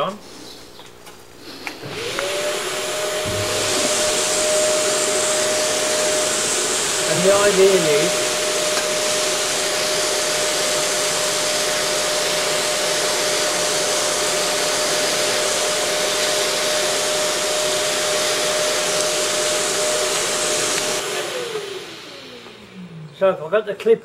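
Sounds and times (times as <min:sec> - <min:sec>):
vacuum cleaner running: 0:01.3 - 0:23.9.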